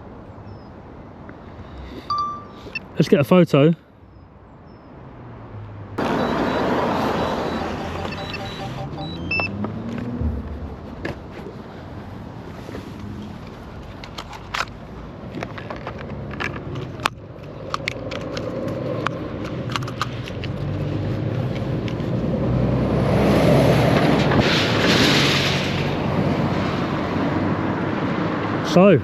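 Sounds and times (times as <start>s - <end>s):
road vehicle passing: 4.3s - 28.7s.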